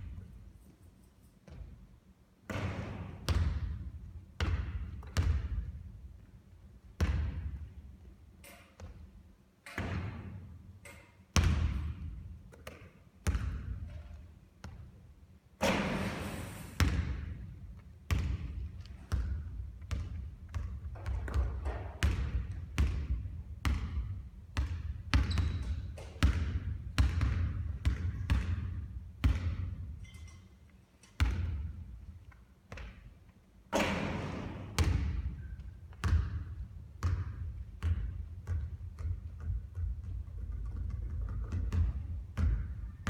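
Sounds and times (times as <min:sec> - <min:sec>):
basketballs bouncing on court: 0:02.5 - 0:06.3, 0:06.9 - 0:07.8, 0:08.8 - 0:10.6, 0:11.3 - 0:15.0, 0:15.6 - 0:30.3, 0:31.2 - 0:32.1, 0:32.7 - 0:33.1, 0:33.7 - 0:43.0.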